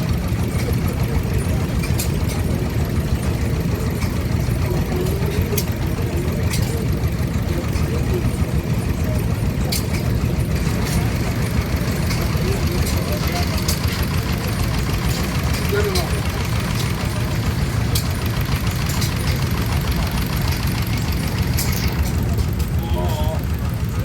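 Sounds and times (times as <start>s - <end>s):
stationary engine running: 0.0s - 24.0s.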